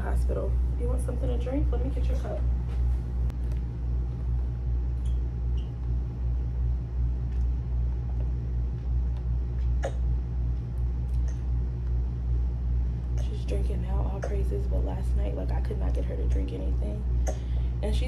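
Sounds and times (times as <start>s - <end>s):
low room rumble and hum: 0.0s - 18.0s.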